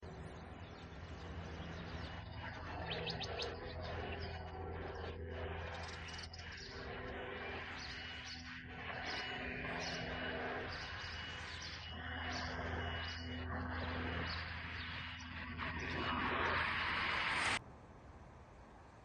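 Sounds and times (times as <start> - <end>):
birds chirping: 0.0 - 17.1
steady low hum: 0.0 - 19.0.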